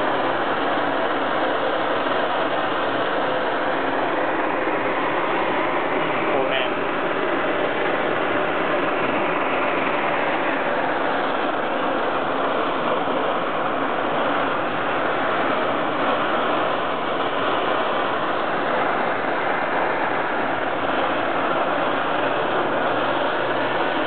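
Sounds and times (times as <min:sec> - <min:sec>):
stove burners hissing: 0:00.0 - 0:24.0.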